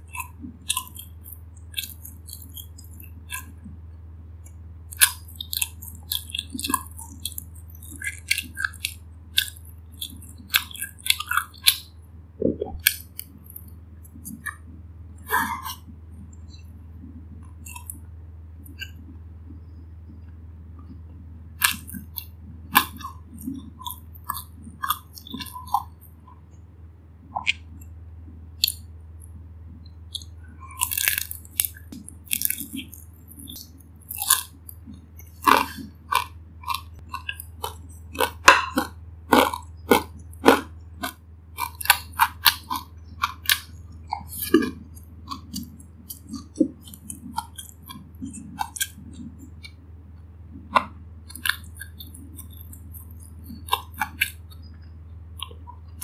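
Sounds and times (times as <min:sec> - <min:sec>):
person chewing crisp food: 0:00.0 - 0:03.8, 0:04.4 - 0:12.0, 0:12.7 - 0:26.6, 0:27.2 - 0:56.0
steady low hum: 0:00.0 - 0:56.0.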